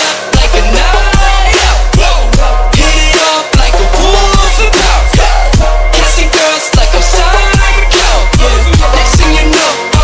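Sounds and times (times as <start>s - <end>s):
dubstep music: 0.0s - 10.0s.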